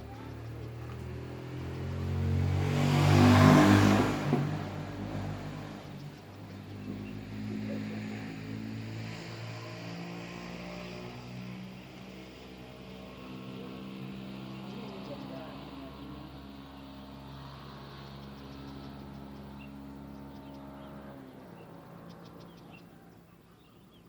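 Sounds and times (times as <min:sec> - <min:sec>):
steady engine hum: 0:00.0 - 0:24.0
vehicle engine passing by: 0:00.0 - 0:24.0.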